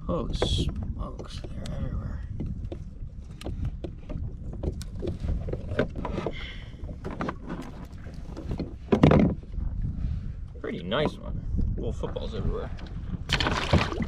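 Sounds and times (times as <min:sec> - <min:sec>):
water lapping against hull: 0:00.0 - 0:14.0.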